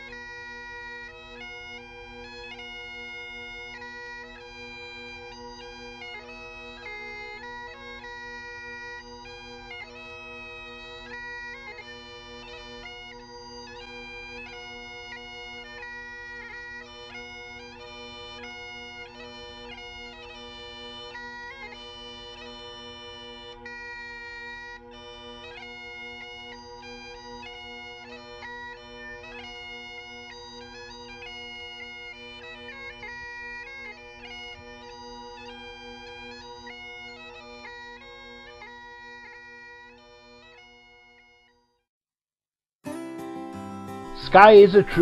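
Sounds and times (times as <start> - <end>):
bagpipes playing: 0.0 - 41.6, 42.9 - 45.0.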